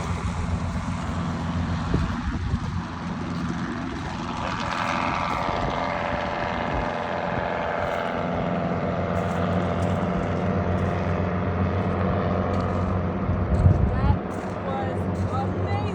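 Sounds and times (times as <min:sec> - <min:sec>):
helicopter flying past: 0:00.0 - 0:15.9.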